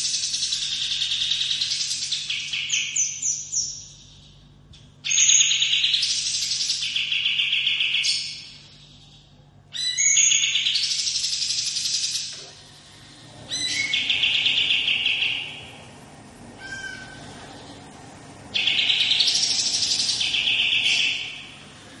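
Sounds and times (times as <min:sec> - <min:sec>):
songbird singing rolling trills: 0:00.0 - 0:12.4, 0:13.4 - 0:16.0, 0:16.7 - 0:21.8.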